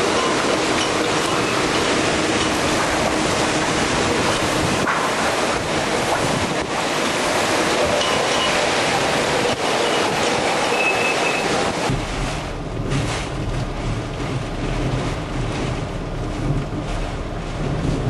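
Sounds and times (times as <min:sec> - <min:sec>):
hurricane wind rushing: 0:00.0 - 0:18.0.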